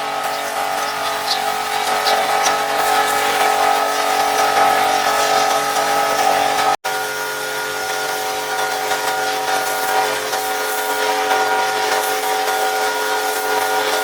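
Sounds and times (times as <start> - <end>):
spray hissing: 0.0 - 6.8, 7.8 - 14.0
pressure washer motor hum: 0.0 - 14.0.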